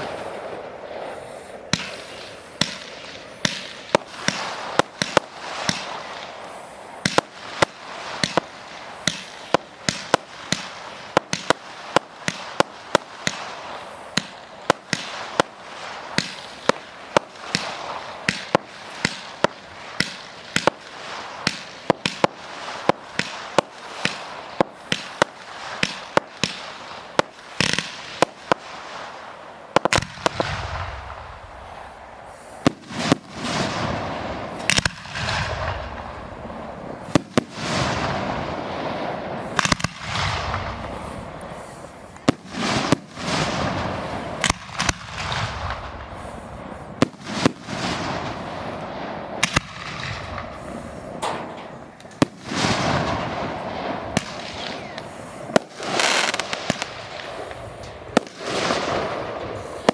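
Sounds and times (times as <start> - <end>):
fireworks crackling: 0.0 - 59.9
fireworks sharp bangs: 0.0 - 59.9.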